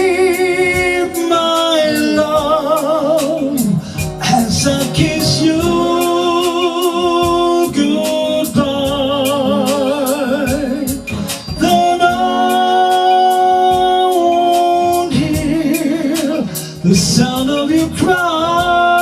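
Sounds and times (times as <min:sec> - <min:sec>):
instrumental backing with beat: 0:00.0 - 0:19.0
person singing a ballad: 0:00.0 - 0:19.0.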